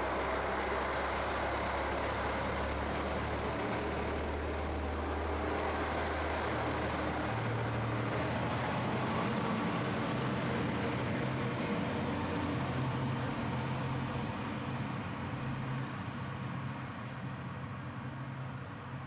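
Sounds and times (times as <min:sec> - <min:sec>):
continuous noise wash: 0:00.0 - 0:19.0
large vehicle engine hum: 0:00.0 - 0:19.0.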